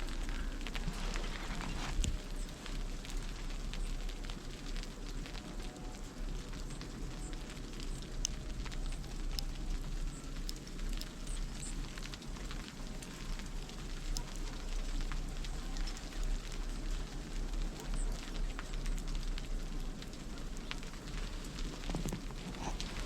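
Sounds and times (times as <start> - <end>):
crackling patter of ice: 0.0 - 23.0.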